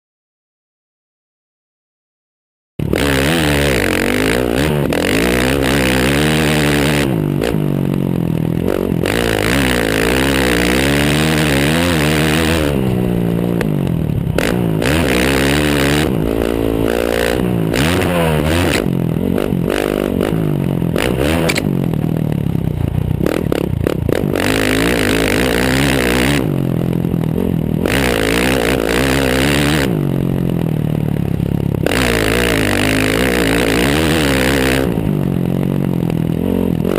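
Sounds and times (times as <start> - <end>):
dirt bike engine revving: 2.8 - 36.9.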